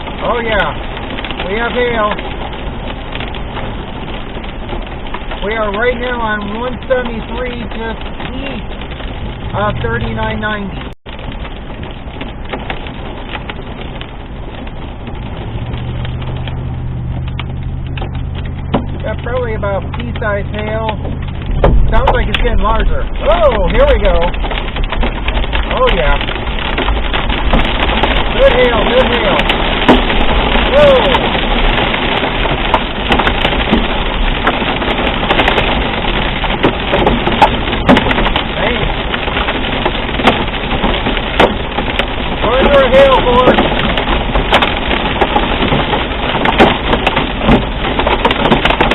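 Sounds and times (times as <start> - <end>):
hail pelting a car: 0.0 - 48.9
rain hissing: 0.0 - 48.9.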